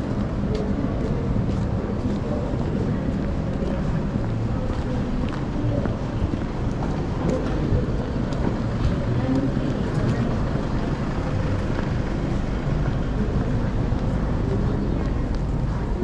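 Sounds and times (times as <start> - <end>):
faint voices: 0.0 - 16.0
traffic rumble: 0.0 - 16.0.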